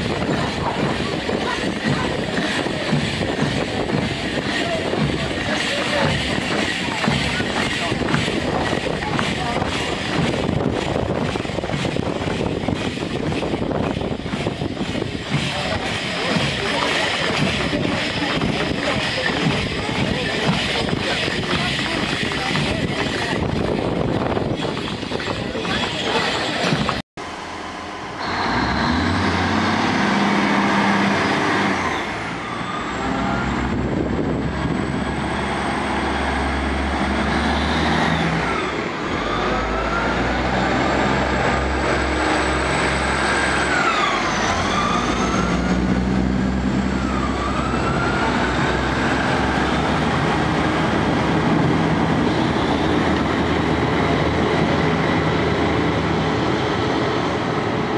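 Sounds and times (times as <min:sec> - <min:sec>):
rail noise: 0:00.0 - 0:57.9
train engine drone: 0:00.0 - 0:57.9.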